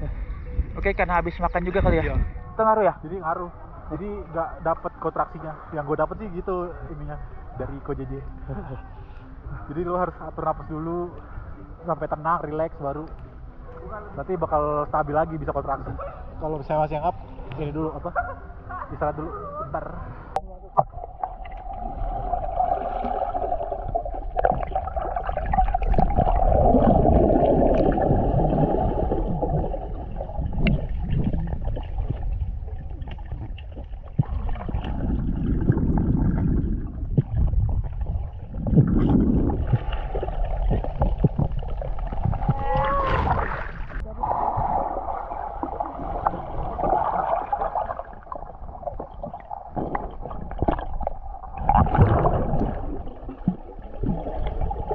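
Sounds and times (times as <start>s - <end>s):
steady underwater hum: 0.0s - 54.9s
underwater rumble and gurgling: 0.0s - 54.9s.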